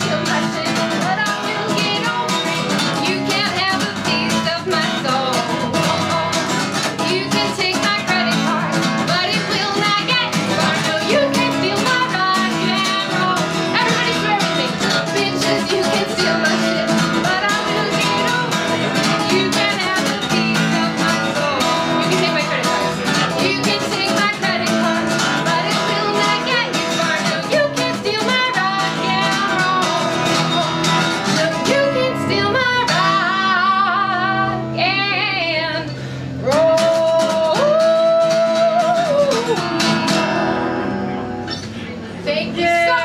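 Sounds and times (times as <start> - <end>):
woman singing: 0.0 - 40.6, 42.2 - 43.0
acoustic guitar strumming: 0.0 - 43.0.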